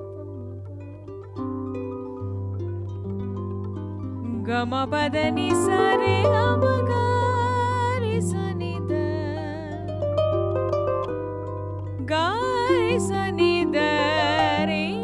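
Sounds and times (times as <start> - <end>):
gliding sustained melodic line: 0.0 - 15.0
harp plucking a melody: 0.0 - 15.0.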